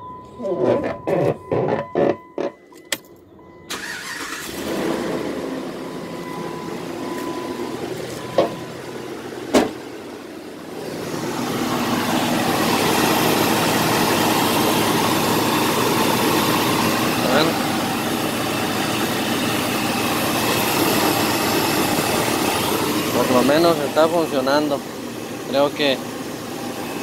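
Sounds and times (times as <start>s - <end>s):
car engine starting and running: 0.0s - 27.0s
engine fan noise: 3.7s - 27.0s.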